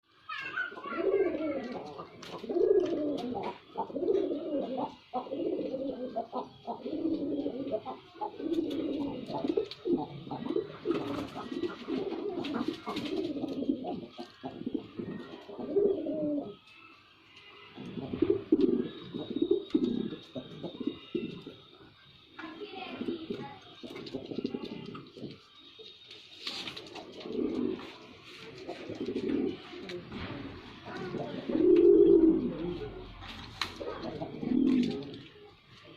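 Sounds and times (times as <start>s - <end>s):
pigeon cooing: 0.3s - 22.1s, 22.8s - 35.6s.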